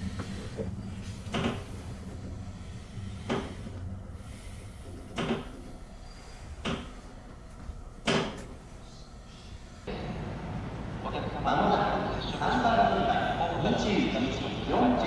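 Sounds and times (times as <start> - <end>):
low train running rumble: 0.0 - 15.0.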